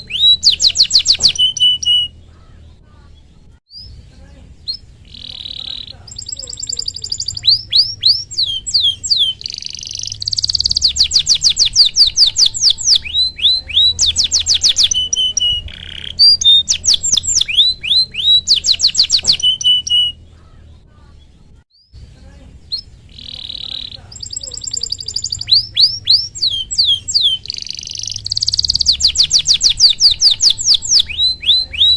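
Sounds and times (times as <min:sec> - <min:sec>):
canary singing: 0:00.0 - 0:31.9.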